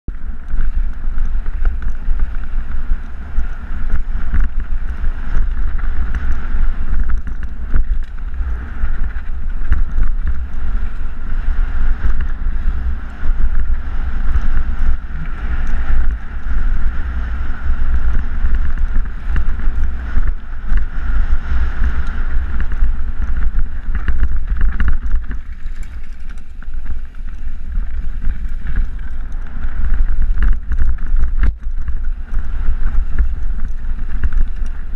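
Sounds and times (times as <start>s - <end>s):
bike rattling over rocks: 0.1s - 34.9s
tyres rolling over gravel: 0.1s - 34.9s
wind buffeting microphone: 0.1s - 34.9s.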